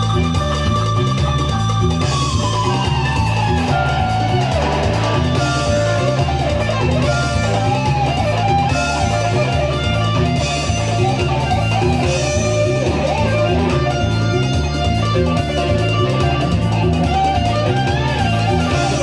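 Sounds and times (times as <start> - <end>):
electric guitar lead: 0.0 - 19.0
repeating bass line: 0.0 - 19.0.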